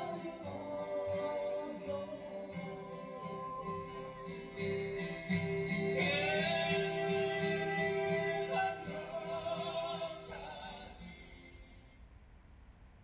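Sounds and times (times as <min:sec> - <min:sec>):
singing with instrumental accompaniment: 0:00.0 - 0:11.6.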